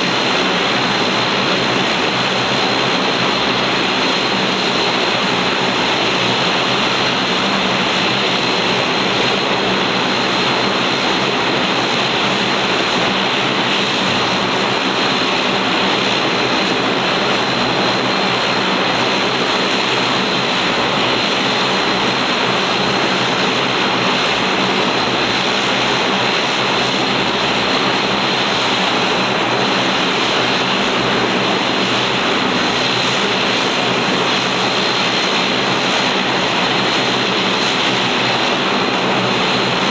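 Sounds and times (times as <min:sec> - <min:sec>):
turboprop propeller drone: 0:00.0 - 0:39.9.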